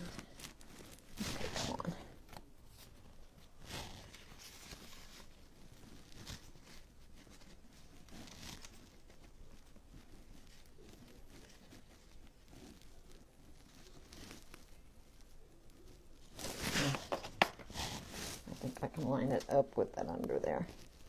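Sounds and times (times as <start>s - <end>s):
plastic sheet rustling on board: 0.0s - 21.0s.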